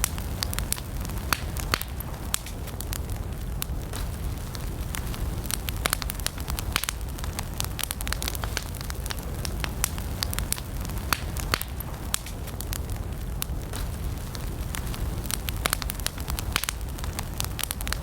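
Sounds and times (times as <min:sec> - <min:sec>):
campfire burning and crackling: 0:00.0 - 0:18.0.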